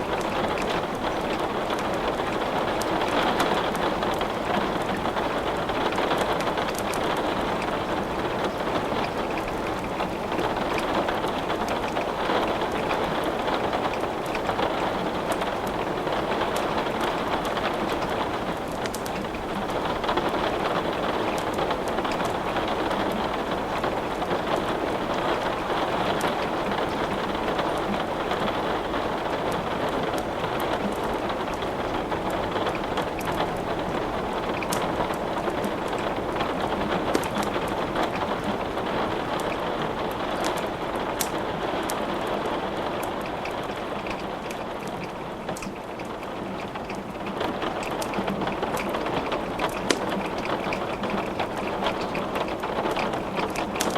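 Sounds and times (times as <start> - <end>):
fireplace wood crackling: 0.0 - 53.9
steady rain falling: 0.0 - 53.9.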